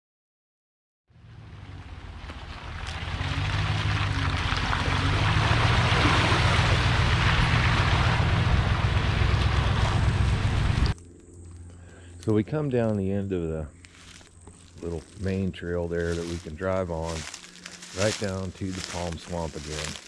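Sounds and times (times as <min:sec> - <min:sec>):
vehicle engine running: 0:01.1 - 0:12.1, 0:13.8 - 0:20.0.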